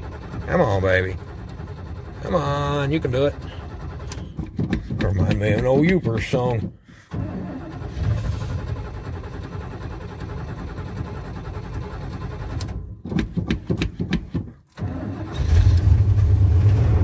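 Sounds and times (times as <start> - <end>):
starter cranking engine: 0.0 - 16.4
engine stuttering and starting: 0.0 - 17.0.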